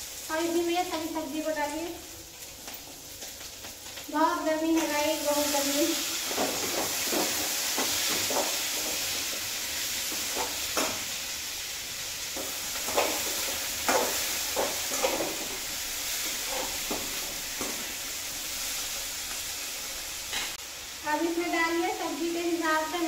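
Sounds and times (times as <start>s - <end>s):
vegetables sizzling in oil: 0.0s - 23.0s.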